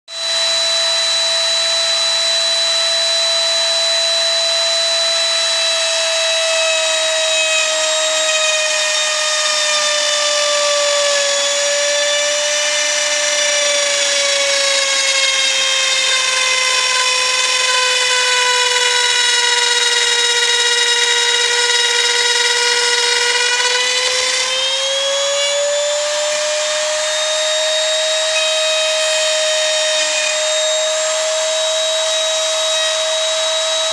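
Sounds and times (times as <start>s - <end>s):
spindle motor high whine: 0.1s - 33.9s.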